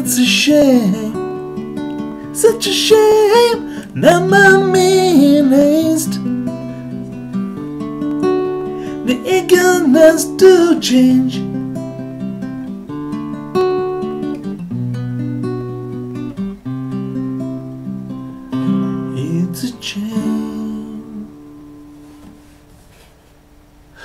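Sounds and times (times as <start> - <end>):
classical guitar chords: 0.0 - 22.6.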